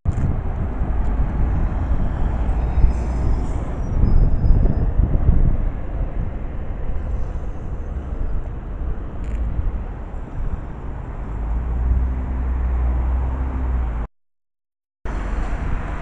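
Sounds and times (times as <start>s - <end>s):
city traffic rumble: 0.1s - 14.1s, 15.1s - 16.0s
vehicle engine hum: 0.1s - 14.1s, 15.1s - 16.0s.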